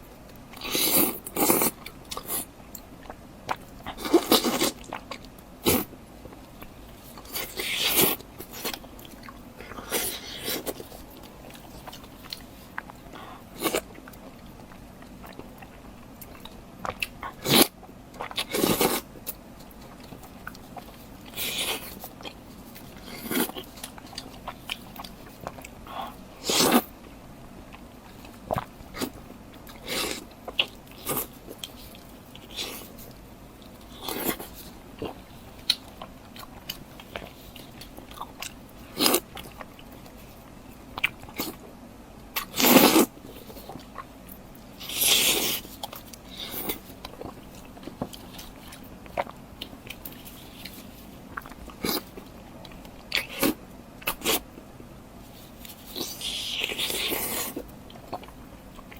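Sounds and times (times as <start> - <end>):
crunchy bites and chewing: 0.3 - 26.9, 27.7 - 41.7, 42.3 - 54.6.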